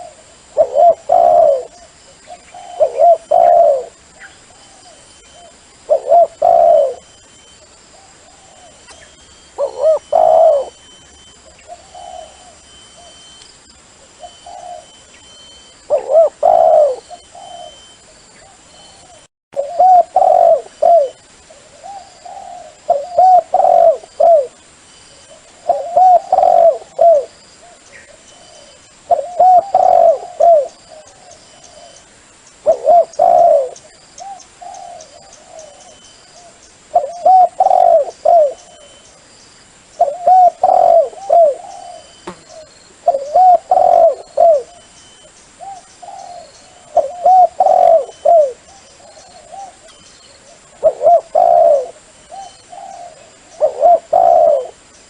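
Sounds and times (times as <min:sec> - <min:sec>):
dove cooing: 0:00.0 - 0:13.3, 0:14.0 - 0:24.6, 0:25.2 - 0:39.0, 0:40.0 - 0:54.9.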